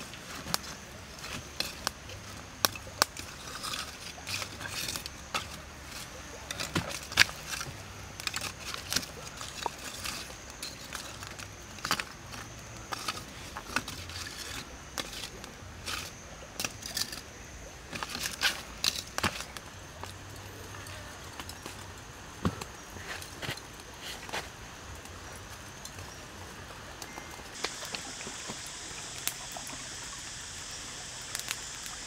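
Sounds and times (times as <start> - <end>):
charcoal lumps clinking: 0.0 - 24.6, 27.0 - 32.0.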